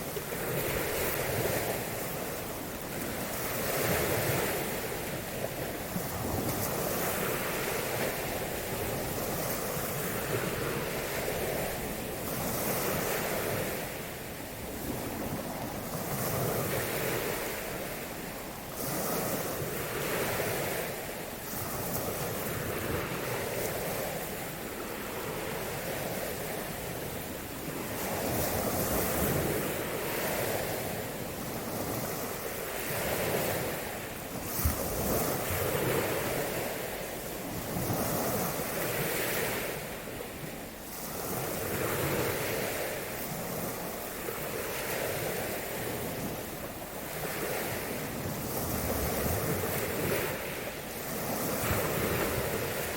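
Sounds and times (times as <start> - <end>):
small waves washing on shore: 0.0 - 52.9
wind rumbling on microphone: 0.0 - 52.9.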